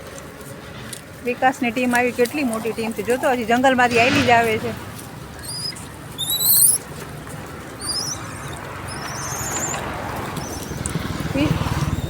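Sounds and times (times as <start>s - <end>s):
small animals chirping and squeaking: 2.0s - 12.0s.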